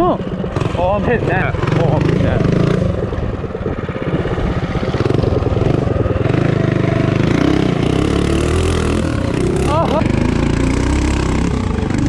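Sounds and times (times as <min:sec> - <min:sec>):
minibike engine running hard: 0:00.0 - 0:12.0.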